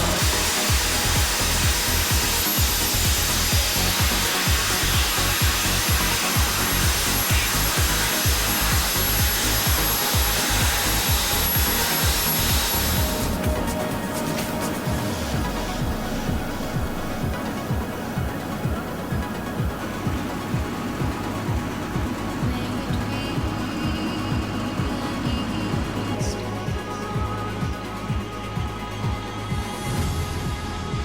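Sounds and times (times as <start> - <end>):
drilling rig hiss and rumble: 0.0 - 31.0.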